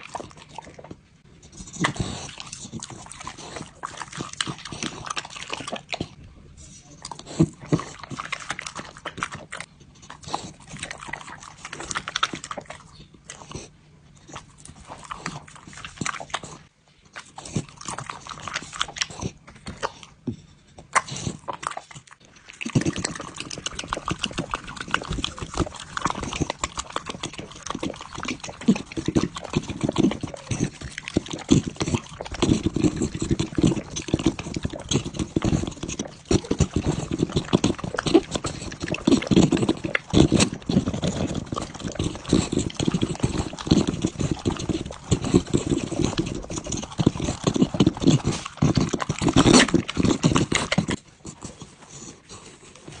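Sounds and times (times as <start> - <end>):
dog licking and lapping: 0.0 - 6.2, 7.0 - 13.7, 14.3 - 20.2, 20.8 - 53.0.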